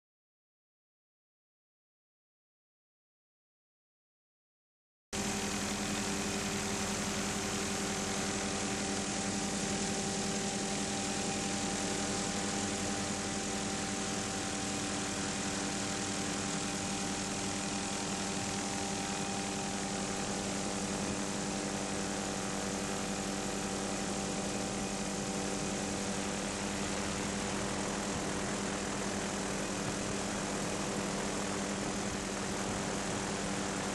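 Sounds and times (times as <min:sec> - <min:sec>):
aircraft engine drone: 0:05.2 - 0:33.9.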